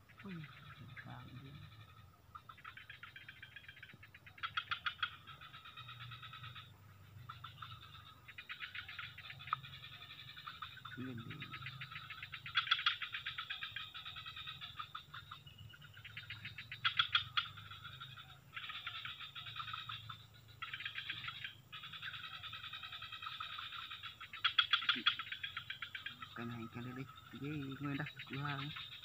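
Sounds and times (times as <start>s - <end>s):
frogs trilling: 0.0s - 29.0s.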